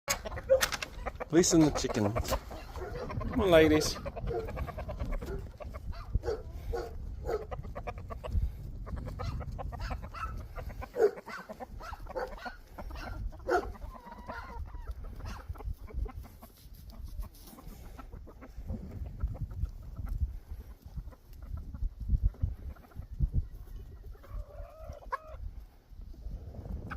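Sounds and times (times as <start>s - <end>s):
hens clucking: 0.1s - 26.9s.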